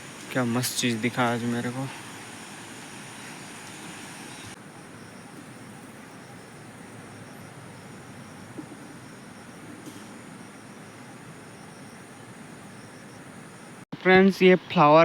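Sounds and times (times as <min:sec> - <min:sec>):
faint high hum: 0:00.0 - 0:15.0
outdoor background hiss: 0:00.0 - 0:15.0.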